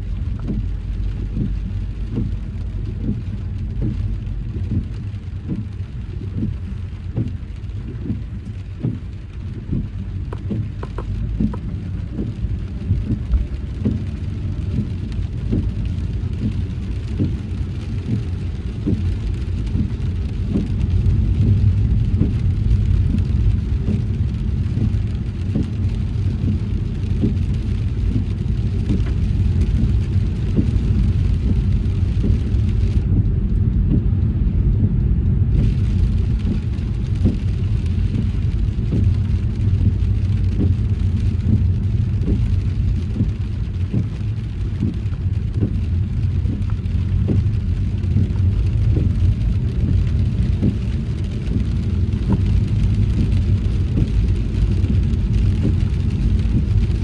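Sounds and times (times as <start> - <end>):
car road rumble: 0.0 - 57.0
raindrops tapping on car: 0.0 - 57.0.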